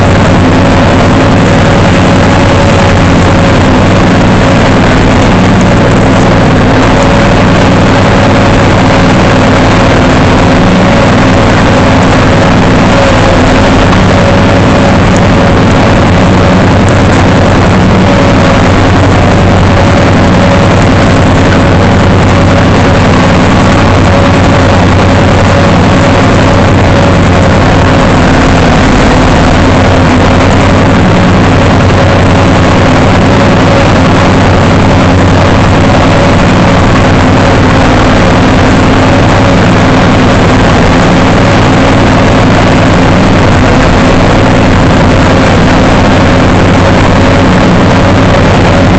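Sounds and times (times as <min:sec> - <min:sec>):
loud engine running steadily: 0:00.0 - 0:48.9.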